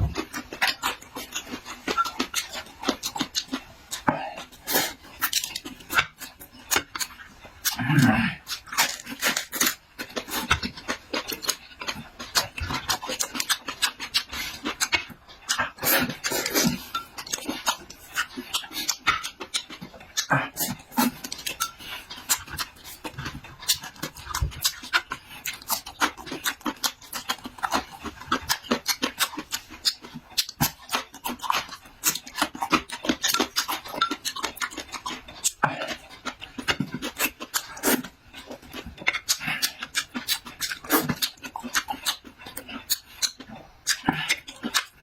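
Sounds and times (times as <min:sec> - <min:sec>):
wet chewing and lip-smacking: 0:00.0 - 0:45.0.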